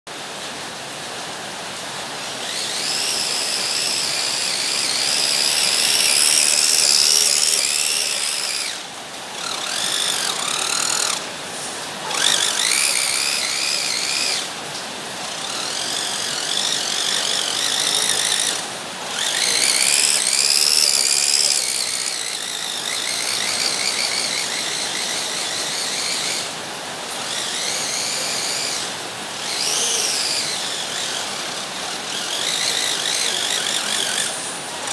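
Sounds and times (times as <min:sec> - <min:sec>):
toy car electric motors whining: 0:02.2 - 0:34.9.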